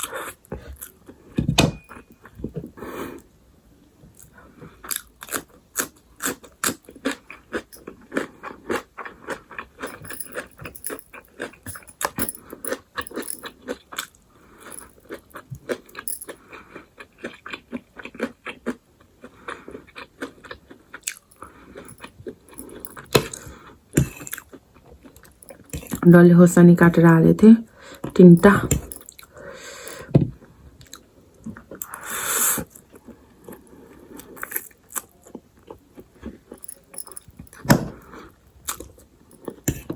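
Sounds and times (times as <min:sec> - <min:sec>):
person chewing crunchy food: 0:00.0 - 0:01.4, 0:04.2 - 0:26.0, 0:29.0 - 0:39.9.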